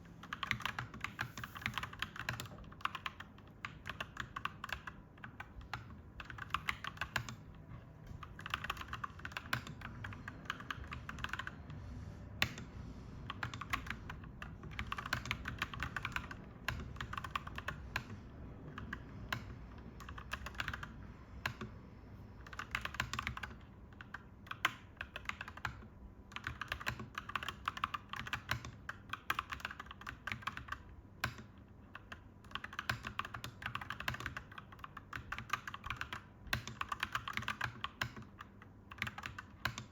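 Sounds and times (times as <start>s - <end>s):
mechanical keyboard typing: 0.2s - 21.8s, 22.4s - 39.9s.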